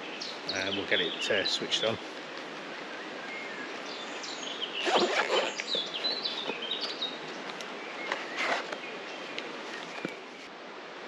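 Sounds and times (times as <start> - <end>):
small songbird singing: 0.0 - 10.4
woodland background: 0.0 - 11.0.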